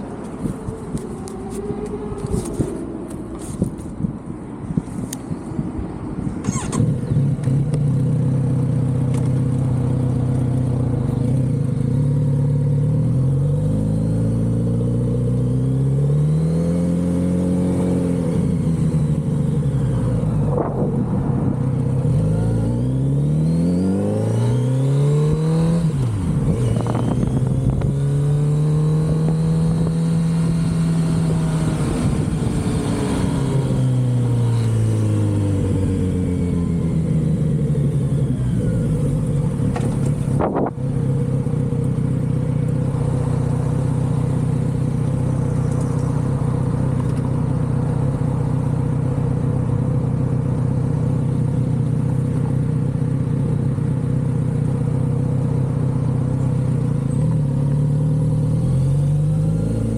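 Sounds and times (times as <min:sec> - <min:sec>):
motorcycle engine revving: 0:06.4 - 0:59.9.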